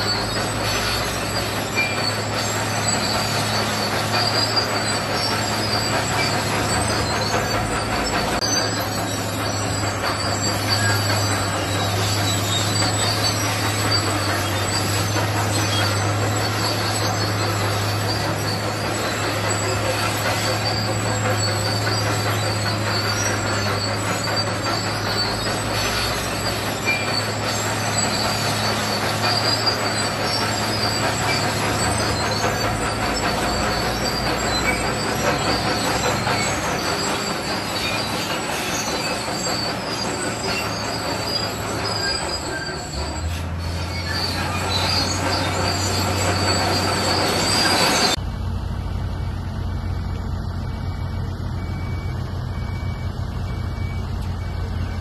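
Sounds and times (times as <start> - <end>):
steel tracks grinding and squealing: 0.0 - 48.2, 49.1 - 55.0
bulldozer diesel engine under load: 0.0 - 55.0.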